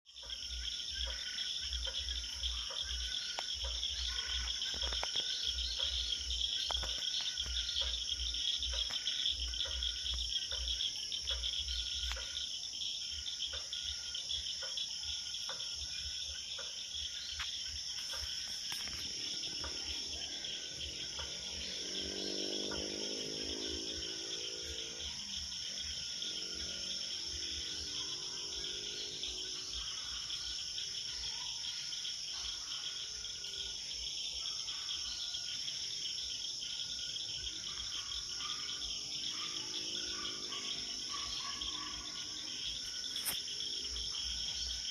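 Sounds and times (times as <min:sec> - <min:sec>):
crickets chirping: 0:00.0 - 0:44.9
lower pitched insect call: 0:00.0 - 0:44.9.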